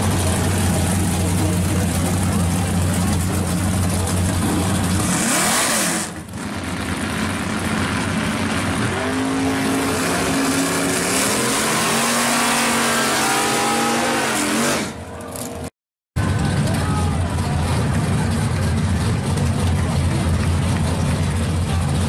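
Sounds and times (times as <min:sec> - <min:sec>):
car engine revving: 0:00.0 - 0:22.0
car engines running: 0:00.0 - 0:22.0.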